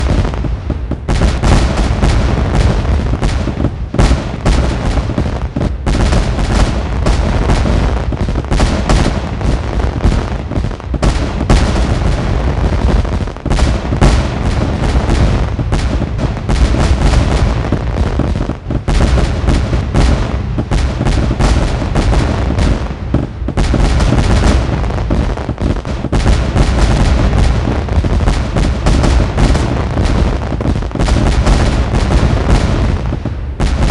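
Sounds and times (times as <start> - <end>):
deep rumble: 0.0 - 33.9
fireworks bangs and crackles: 0.0 - 33.9.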